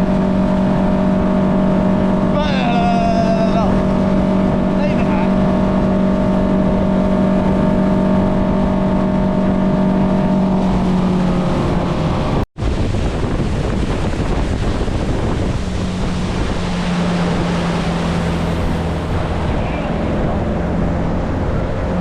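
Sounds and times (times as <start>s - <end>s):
motorboat engine: 0.0s - 22.0s
water rushing: 0.0s - 22.0s
wind: 0.0s - 22.0s.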